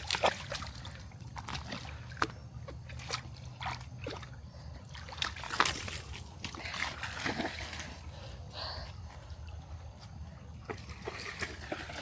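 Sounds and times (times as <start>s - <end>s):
footsteps splashing through water and mud: 0.0s - 12.0s.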